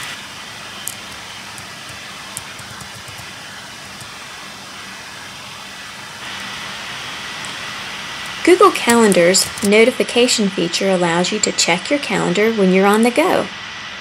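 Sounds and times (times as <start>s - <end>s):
steady hiss with low hum: 0.0s - 14.0s.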